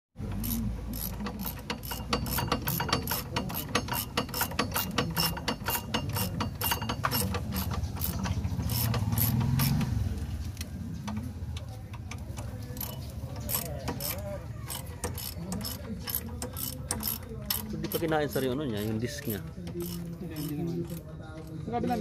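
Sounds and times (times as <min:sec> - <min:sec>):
ratchet wrench clicking: 0:00.2 - 0:10.0, 0:11.0 - 0:21.6.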